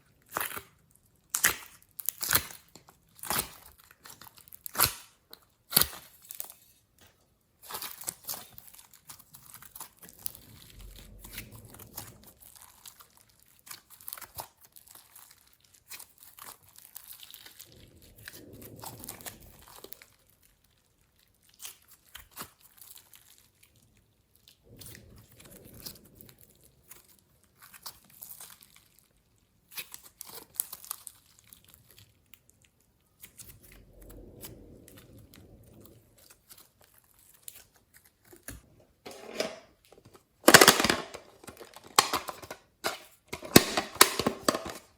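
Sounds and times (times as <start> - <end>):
slime crackling and popping: 0.0 - 39.0, 39.7 - 44.9
slime squishing: 0.0 - 44.9.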